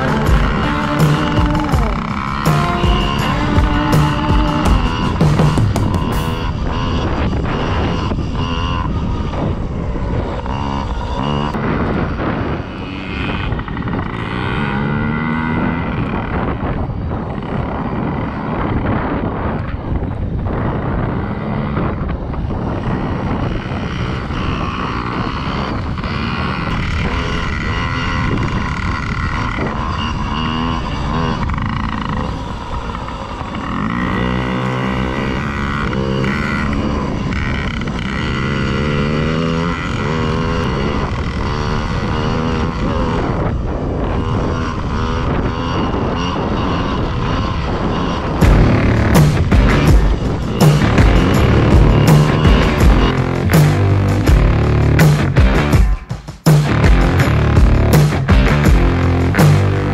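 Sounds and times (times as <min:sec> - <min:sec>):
two-stroke minibike engines revving: 0:00.0 - 0:59.9.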